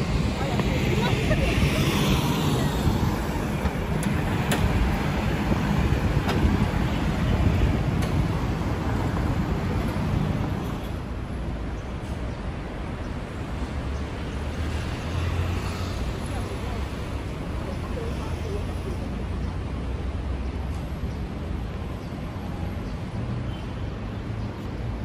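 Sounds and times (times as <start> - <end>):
rumble of passing cars: 0.0 - 25.0.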